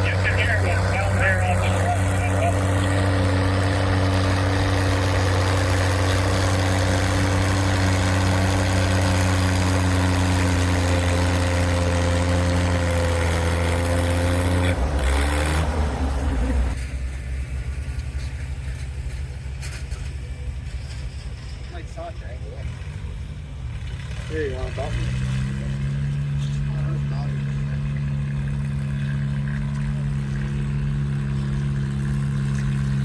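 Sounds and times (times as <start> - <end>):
tractor engine running hard: 0.0 - 21.7, 22.7 - 33.0.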